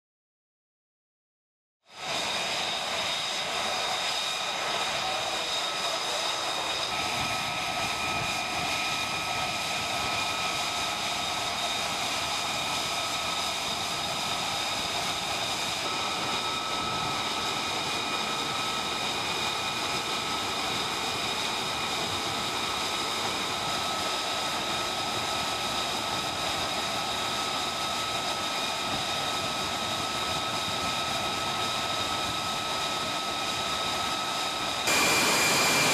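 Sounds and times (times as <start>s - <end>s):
jet engine running with whine: 1.9s - 35.9s.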